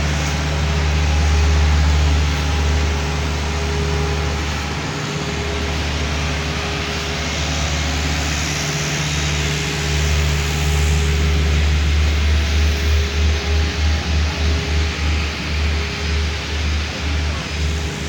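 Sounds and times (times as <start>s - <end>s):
diesel paving machine rumbling: 0.0s - 18.0s.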